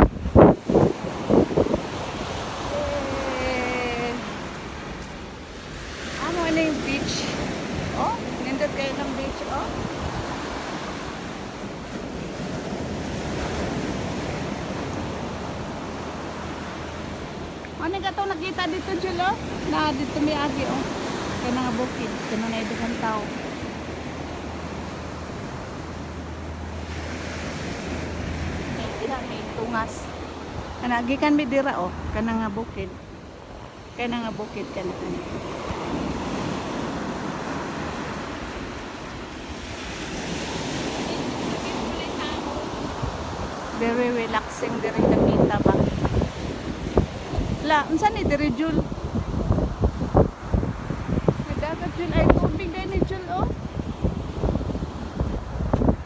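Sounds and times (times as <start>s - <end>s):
waves breaking on beach: 0.0s - 56.0s
wind on microphone: 0.0s - 56.0s.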